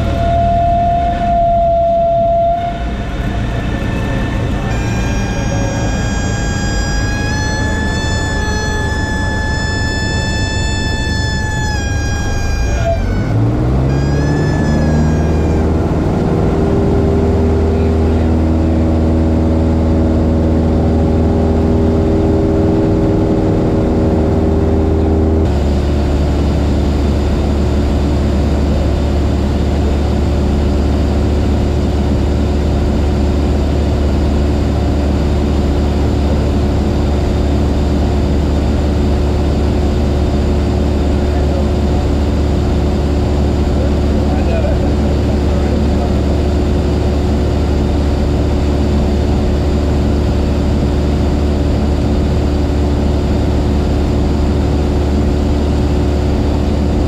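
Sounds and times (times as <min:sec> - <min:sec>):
airplane engine and propeller: 0:00.0 - 0:57.0.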